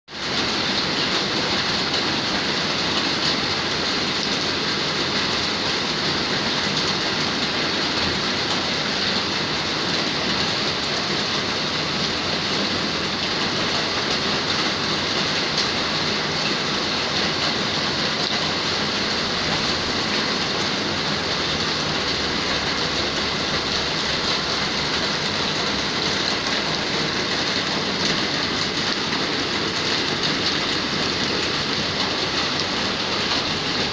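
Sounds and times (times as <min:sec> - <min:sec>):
heavy rain hissing: 0:00.2 - 0:33.9.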